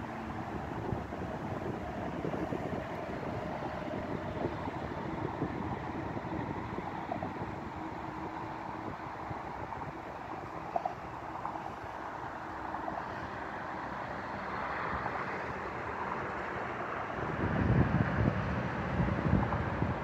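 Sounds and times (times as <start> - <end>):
rushing outdoor background: 0.0 - 20.0
wind blowing across microphone: 0.0 - 20.0.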